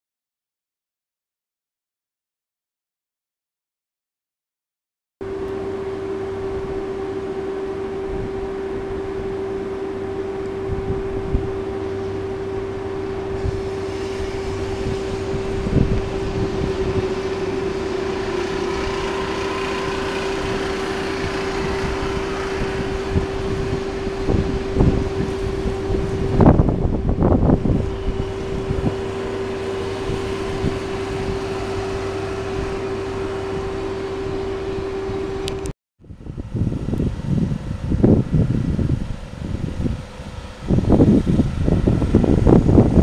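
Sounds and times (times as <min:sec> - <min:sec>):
electric train hum: 0:05.2 - 0:43.0.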